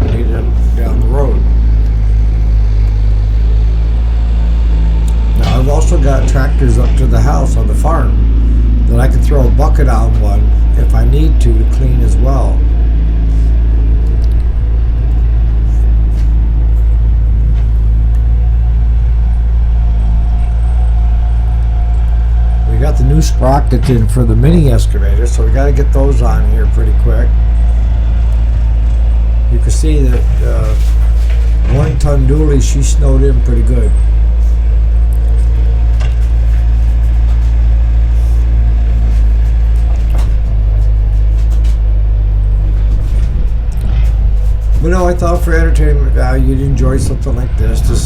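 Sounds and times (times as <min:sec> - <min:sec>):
faint high whine: 0:00.0 - 0:41.4
diesel engine droning: 0:00.0 - 0:48.0.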